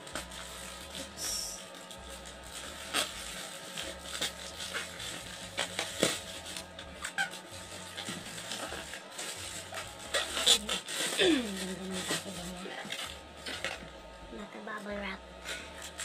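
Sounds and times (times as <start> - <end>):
plastic and bubble wrap crinkling: 0.0 - 16.0.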